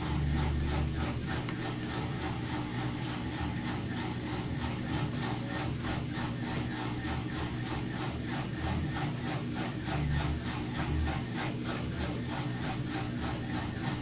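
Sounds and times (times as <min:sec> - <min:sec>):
rhythmic rubbing scraping: 0:00.0 - 0:14.0
washing machine spinning hum: 0:00.0 - 0:14.0.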